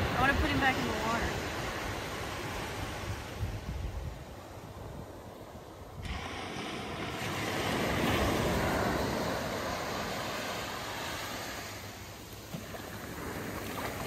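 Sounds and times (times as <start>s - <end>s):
waves washing up a beach: 0.0s - 14.0s.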